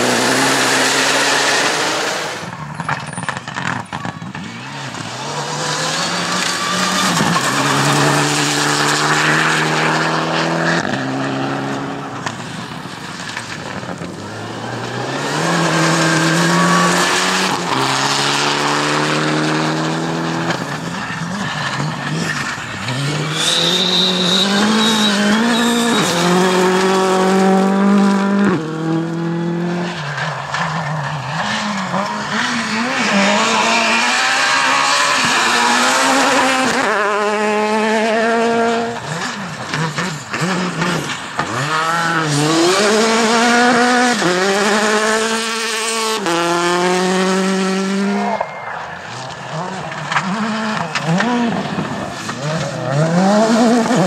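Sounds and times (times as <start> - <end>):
car engine accelerating through gears: 0.0 - 2.6, 3.5 - 12.4, 13.3 - 48.4, 49.1 - 54.0.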